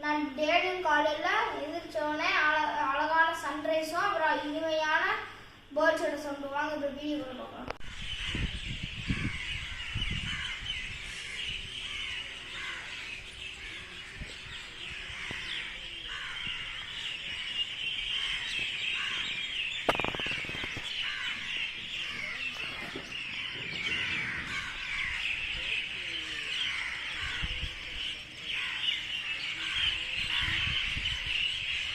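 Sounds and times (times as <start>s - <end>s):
birds chirping and twittering: 0.0s - 31.9s.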